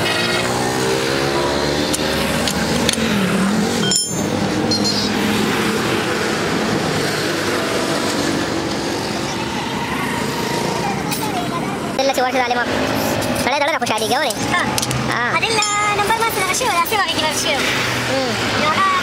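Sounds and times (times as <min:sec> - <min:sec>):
road noise hiss: 0:00.0 - 0:19.0
vehicle engines passing: 0:00.0 - 0:19.0.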